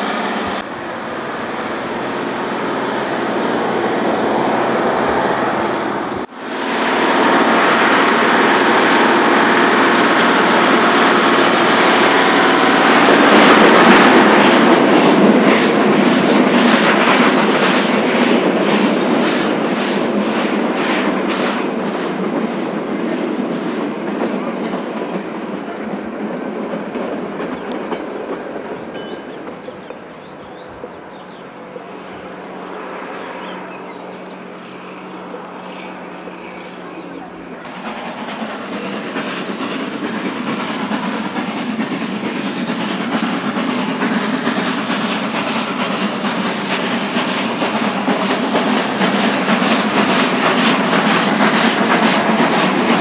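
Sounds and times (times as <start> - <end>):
locomotive running gear rush: 0.0 - 53.0
steam locomotive exhaust chuffing: 0.0 - 53.0.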